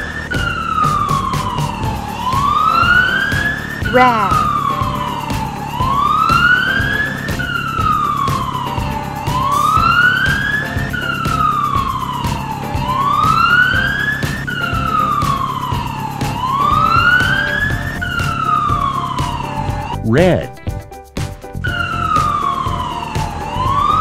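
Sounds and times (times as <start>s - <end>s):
siren wailing: 0.0s - 20.2s, 21.7s - 24.0s
background music with a beat: 0.0s - 24.0s.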